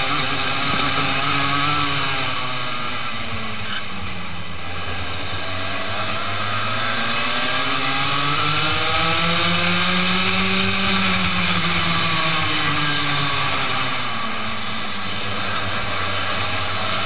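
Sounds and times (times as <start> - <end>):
kart engine accelerating: 0.0 - 17.0.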